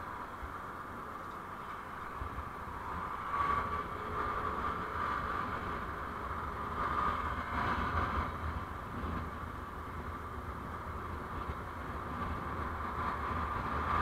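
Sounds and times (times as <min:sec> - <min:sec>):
vehicle driving rumble and hiss: 0:00.0 - 0:14.0.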